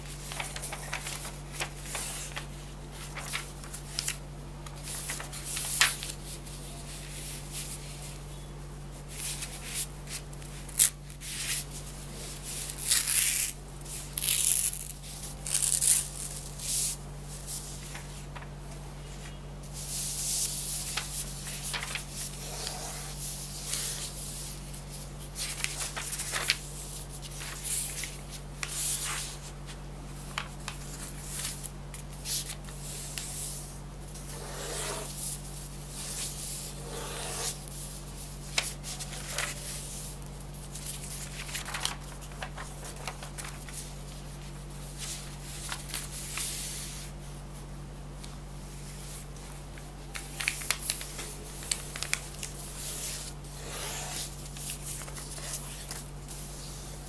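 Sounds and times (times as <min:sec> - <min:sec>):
paper rustling and crinkling: 0:00.0 - 0:08.3, 0:09.0 - 0:18.6, 0:19.2 - 0:47.2, 0:48.9 - 0:57.0
steady low hum: 0:00.0 - 0:57.0.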